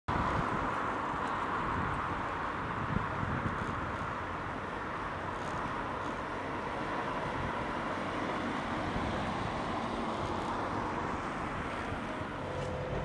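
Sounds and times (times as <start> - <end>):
engine and traffic hum: 0.1 - 13.0.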